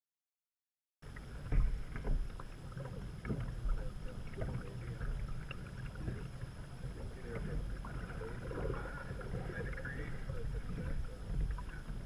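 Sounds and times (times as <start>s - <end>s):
small water sounds: 1.0s - 12.0s
steady low rumble: 1.0s - 12.0s
paddle splashes: 1.1s - 12.0s.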